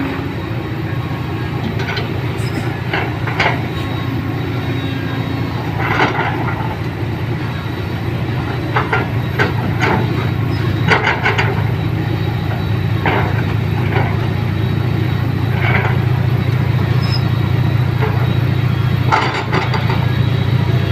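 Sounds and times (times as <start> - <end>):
rattles and clunks: 0.0 - 20.9
vehicle engine drone: 0.0 - 20.9.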